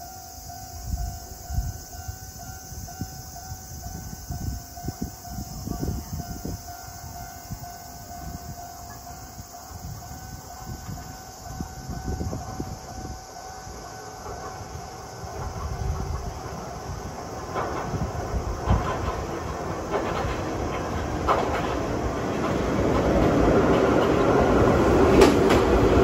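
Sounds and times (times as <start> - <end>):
approaching train rumble: 0.0 - 26.0.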